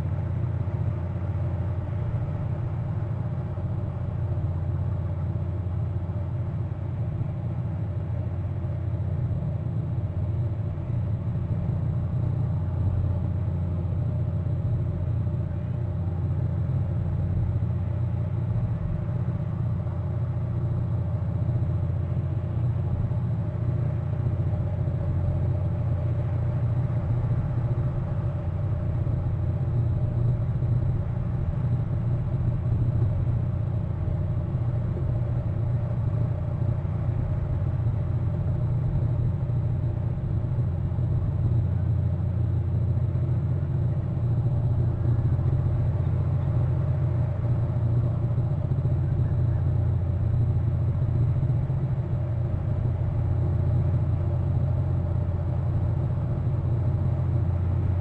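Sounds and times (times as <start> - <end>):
faint constant hum: 0.0 - 58.0
low rumble: 9.9 - 58.0.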